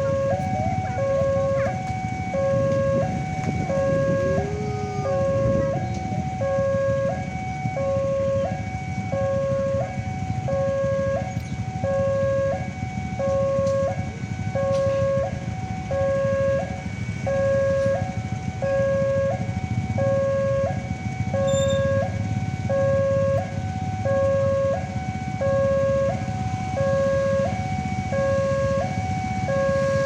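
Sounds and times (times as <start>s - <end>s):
two-tone level crossing siren: 0.0s - 30.0s.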